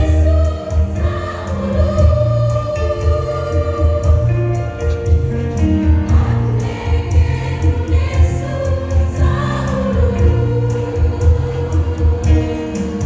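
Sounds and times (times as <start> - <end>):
pulsing bass beat: 0.0 - 12.6
choir singing: 0.0 - 13.0.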